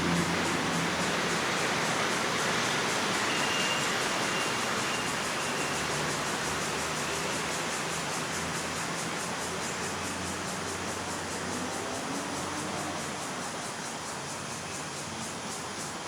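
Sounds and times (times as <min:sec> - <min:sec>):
distant city traffic rumble: 0:00.0 - 0:13.4.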